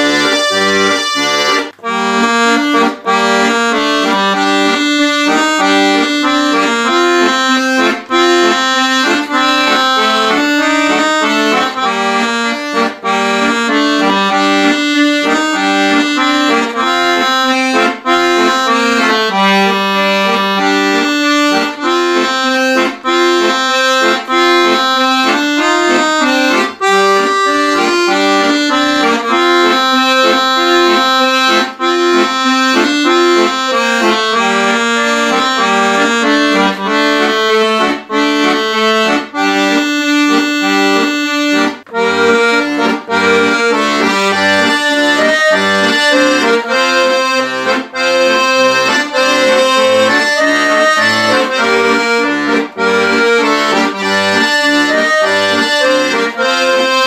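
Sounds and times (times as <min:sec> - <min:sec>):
accordion playing a tune: 0:00.0 - 0:57.0.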